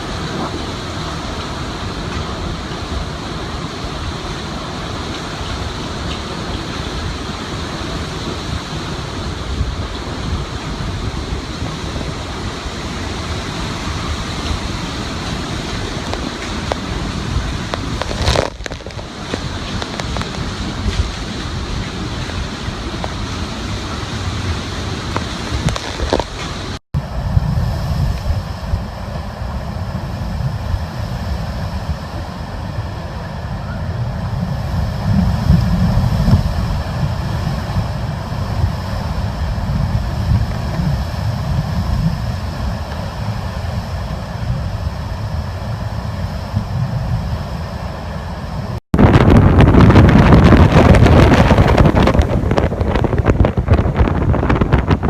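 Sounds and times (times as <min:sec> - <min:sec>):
hurricane wind buffeting microphone: 0:00.0 - 0:55.0.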